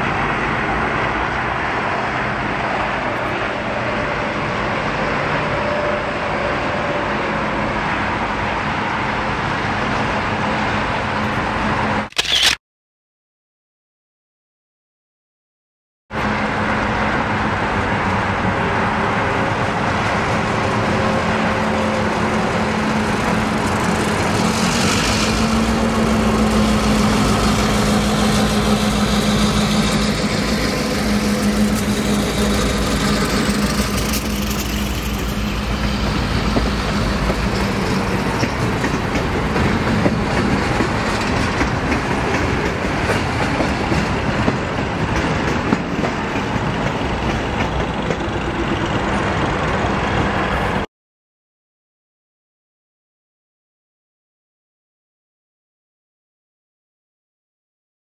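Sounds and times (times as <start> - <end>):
diesel locomotive engines rumbling: 0.0 - 12.1, 16.1 - 50.9
train wheels on rails: 0.0 - 12.4, 16.2 - 50.9.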